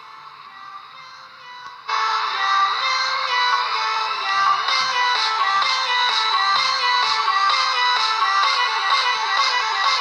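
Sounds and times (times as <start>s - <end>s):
music with electronic sung melody: 0.0s - 10.0s.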